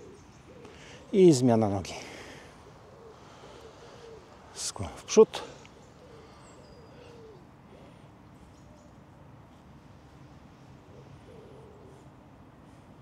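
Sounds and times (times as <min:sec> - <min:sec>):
soft bird cooing: 0:00.0 - 0:13.0.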